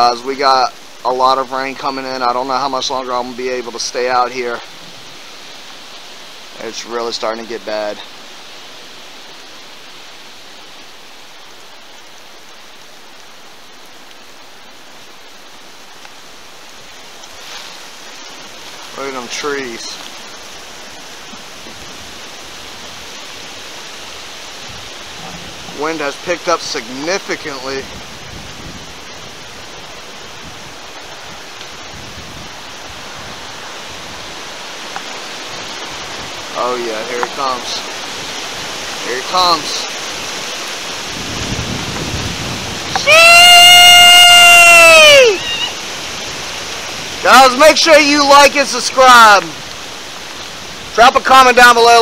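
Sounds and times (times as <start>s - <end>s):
heavy rain through trees: 0.0s - 52.0s.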